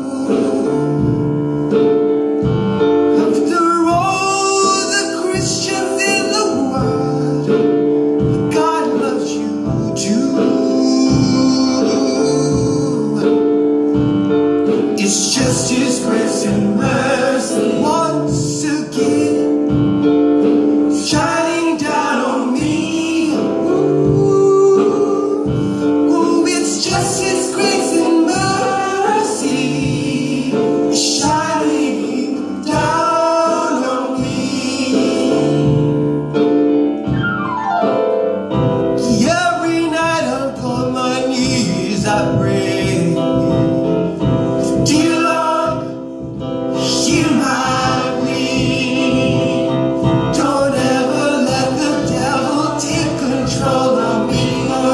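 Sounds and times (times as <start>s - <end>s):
vocal group singing gospel: 0.0s - 36.3s, 38.8s - 54.9s
keyboard chords: 0.0s - 54.9s.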